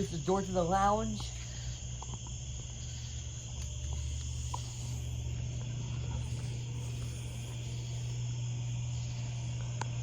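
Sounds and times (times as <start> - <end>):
crickets trilling: 0.0 - 10.0
low hum: 0.0 - 10.0.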